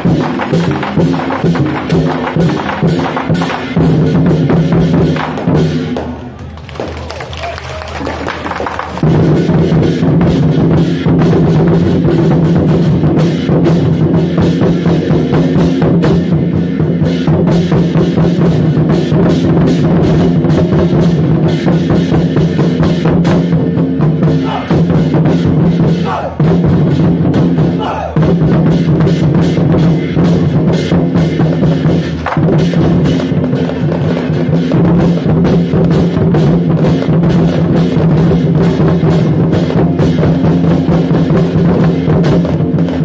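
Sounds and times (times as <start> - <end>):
procession music with rapid drumming: 0.0 - 6.2, 7.9 - 43.0.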